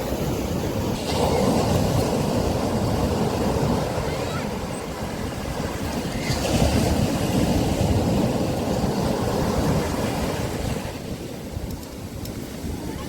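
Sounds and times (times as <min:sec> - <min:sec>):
sea waves breaking on a beach: 0:00.0 - 0:13.0.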